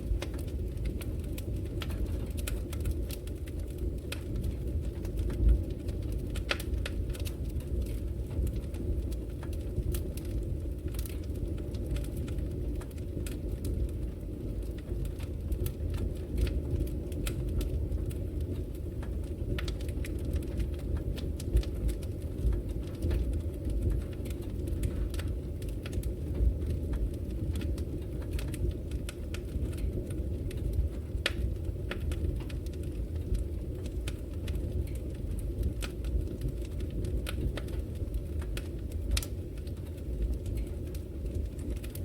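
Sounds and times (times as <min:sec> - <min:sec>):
logs crackling in fireplace: 0:00.0 - 0:42.0.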